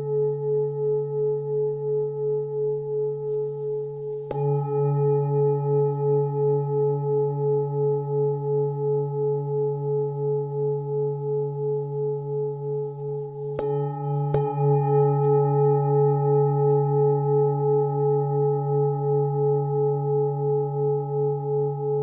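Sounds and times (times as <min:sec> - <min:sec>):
singing bowl ringing: 0:00.0 - 0:22.0.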